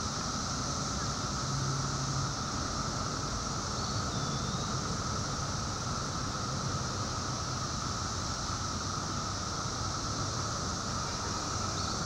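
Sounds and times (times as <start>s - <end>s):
cicadas droning buzz: 0.0s - 12.0s.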